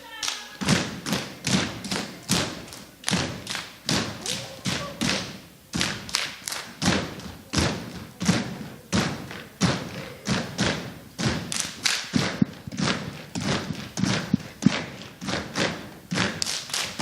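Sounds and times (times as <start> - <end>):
stomps and hand strikes: 0.6 - 17.0.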